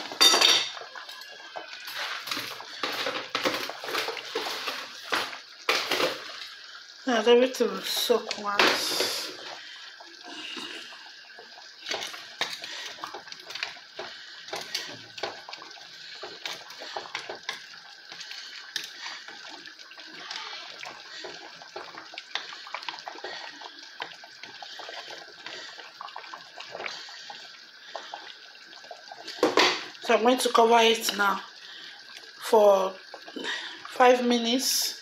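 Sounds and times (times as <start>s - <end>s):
stock boiling and bubbling: 0.0s - 35.0s.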